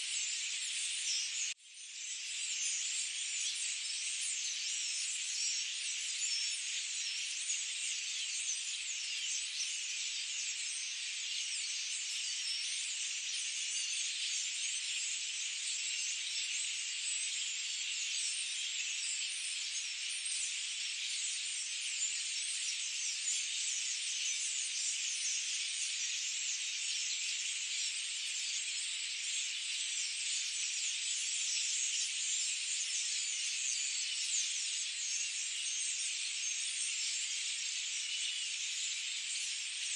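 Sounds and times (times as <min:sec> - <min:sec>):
forest bird chorus: 0:00.0 - 0:39.9.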